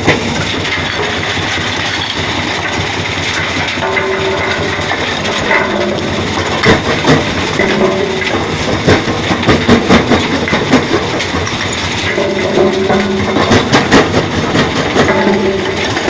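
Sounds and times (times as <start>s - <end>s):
rocks knocking on steel: 0.0s - 16.0s
vibrating feeder mechanical rumble: 0.0s - 16.0s.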